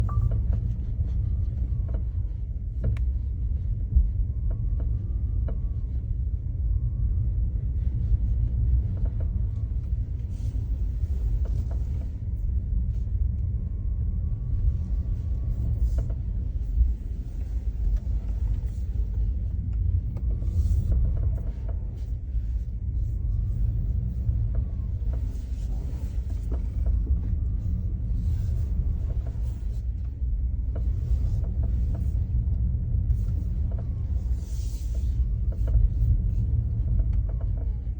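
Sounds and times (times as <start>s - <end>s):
car road and engine rumble: 0.0s - 37.9s.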